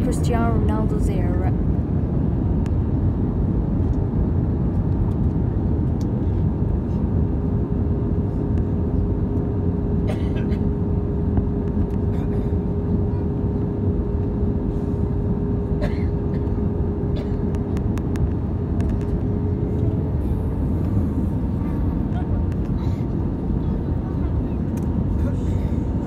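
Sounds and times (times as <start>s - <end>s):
aircraft cabin engine roar: 0.0s - 26.0s
steady whining tone: 0.0s - 26.0s.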